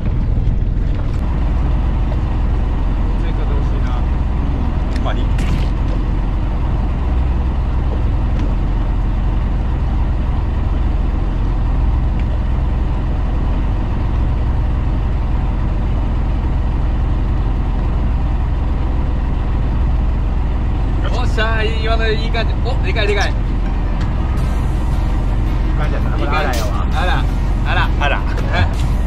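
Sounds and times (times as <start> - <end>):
boat engine rumbling: 0.0 - 29.0.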